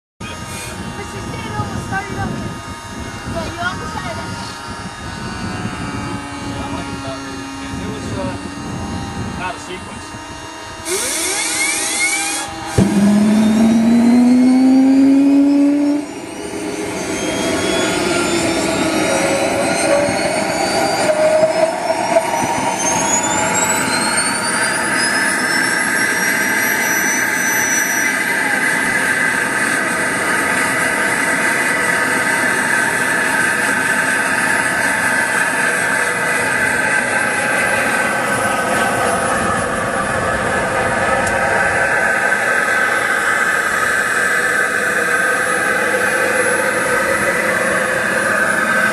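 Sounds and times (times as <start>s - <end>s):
jet turbine starting up: 0.2s - 48.9s.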